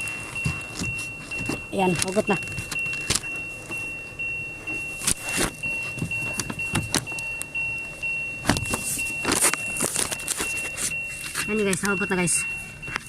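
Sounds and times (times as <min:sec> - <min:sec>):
repeating electronic beep: 0:00.0 - 0:13.0.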